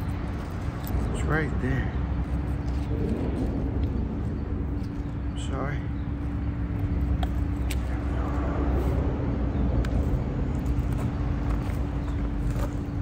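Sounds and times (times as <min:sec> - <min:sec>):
constant hum: 0:00.0 - 0:13.0
low outdoor rumble: 0:00.0 - 0:13.0.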